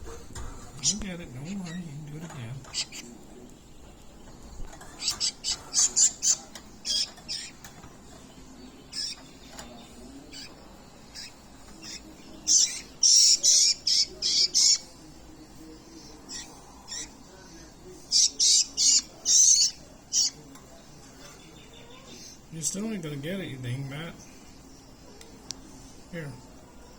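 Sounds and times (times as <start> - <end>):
nestling birds squawking: 0.0 - 26.9.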